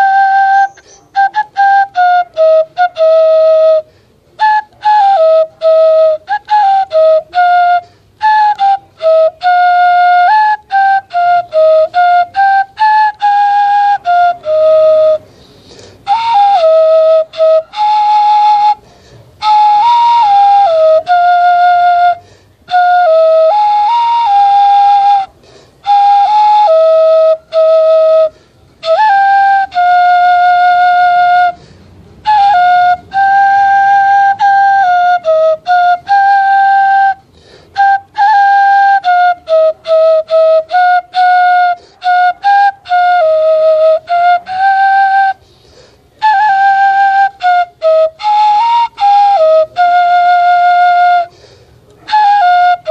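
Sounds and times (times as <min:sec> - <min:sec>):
bamboo flute melody: 0:00.0 - 0:52.9.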